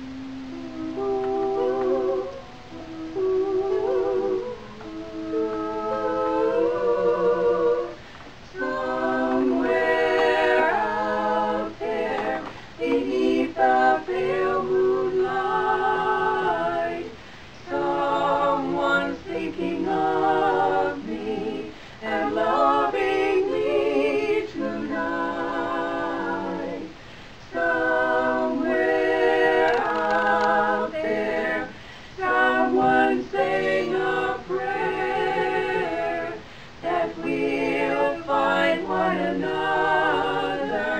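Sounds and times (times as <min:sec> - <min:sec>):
women singing a cappella: 0:00.0 - 0:40.9.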